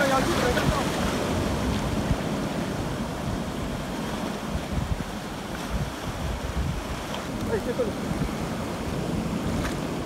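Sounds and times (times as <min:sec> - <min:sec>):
surf washing over rocks: 0:00.0 - 0:10.0
wind buffeting microphone: 0:00.0 - 0:10.0.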